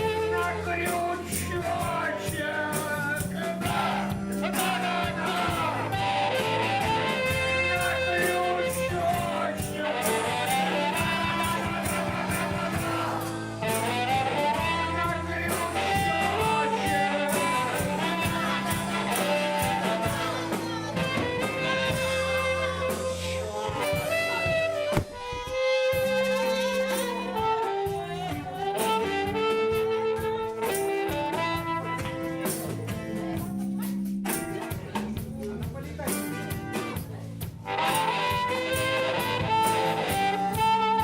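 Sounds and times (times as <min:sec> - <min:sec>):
bass line: 0:00.0 - 0:41.0
drums steady beat: 0:00.0 - 0:41.0
live blues-jazz band: 0:00.0 - 0:41.0.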